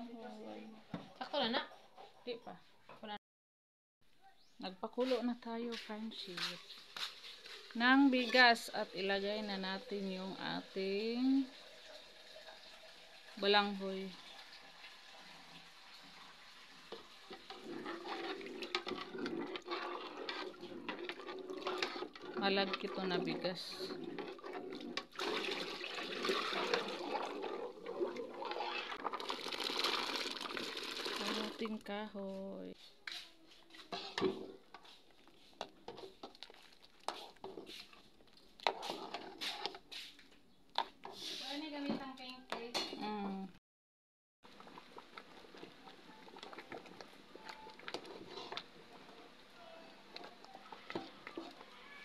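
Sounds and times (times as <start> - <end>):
water sloshing in pot: 5.8 - 43.2, 44.5 - 52.0.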